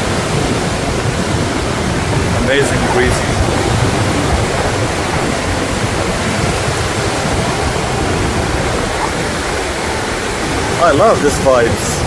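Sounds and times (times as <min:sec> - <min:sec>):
ocean surf: 0:00.0 - 0:12.0
wind blowing over microphone: 0:00.0 - 0:12.0.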